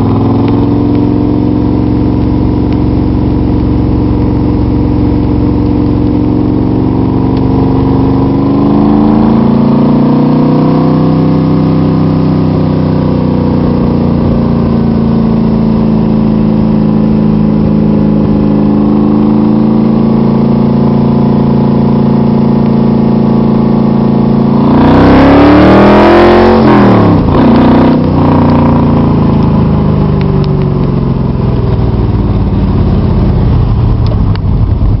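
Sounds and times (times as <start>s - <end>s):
car engine running and revving: 0.0s - 35.0s.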